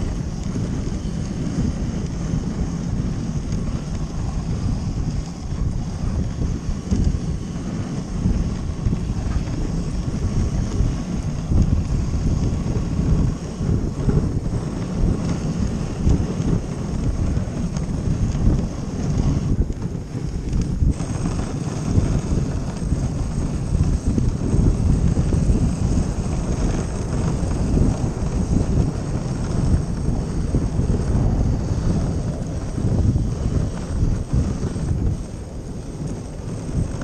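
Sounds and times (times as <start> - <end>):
sled runners sliding over snow: 0.0 - 37.0
wind on microphone: 0.0 - 37.0.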